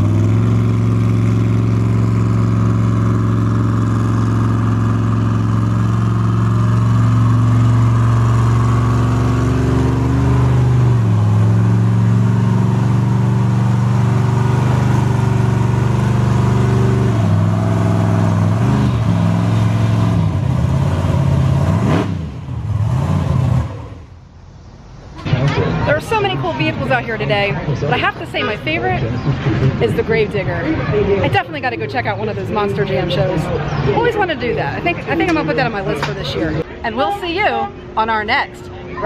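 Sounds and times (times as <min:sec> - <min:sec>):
truck engine with throttle blips: 0:00.0 - 0:39.0.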